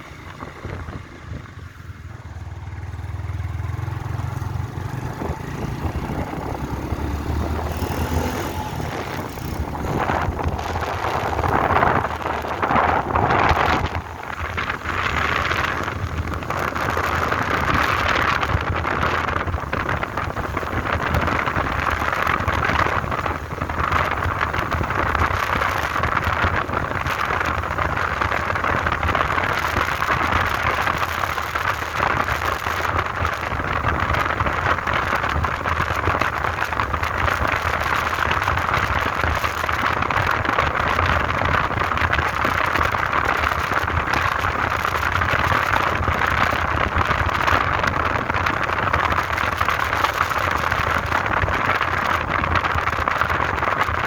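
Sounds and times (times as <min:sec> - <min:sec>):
motorbike engine rumble: 0:00.0 - 0:54.0
rushing hiss of air and road: 0:00.0 - 0:54.0.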